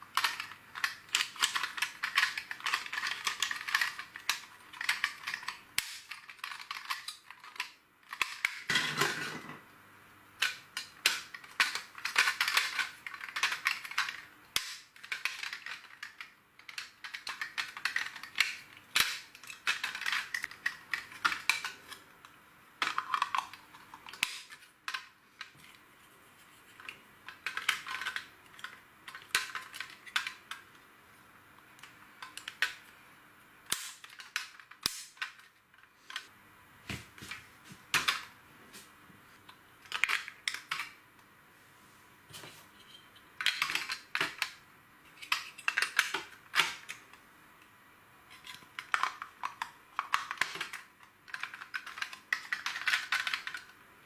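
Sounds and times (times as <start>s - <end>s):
plastic bricks clicking: 0.1s - 9.6s, 10.4s - 25.6s, 26.8s - 30.8s, 31.8s - 33.0s, 33.7s - 36.3s, 39.5s - 41.0s, 43.4s - 47.2s, 48.3s - 53.8s.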